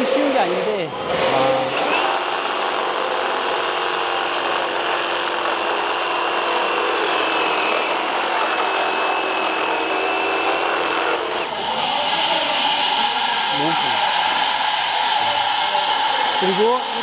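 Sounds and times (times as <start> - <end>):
reciprocating saw motor whine: 0.0 - 17.0.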